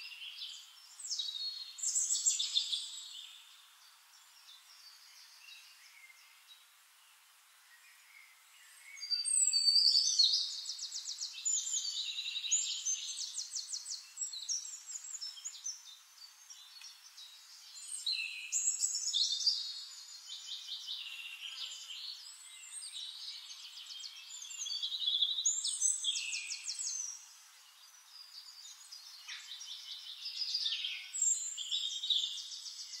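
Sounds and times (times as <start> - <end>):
birds singing and chirping: 0.0 - 6.7, 7.7 - 33.0.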